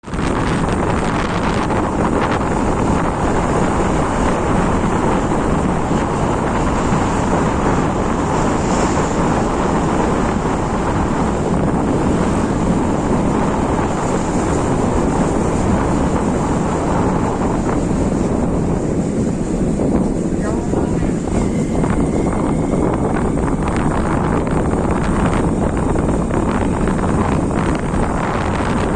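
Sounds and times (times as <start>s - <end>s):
motorcycle road noise: 0.0s - 28.9s
wind rushing over microphone: 0.0s - 28.9s.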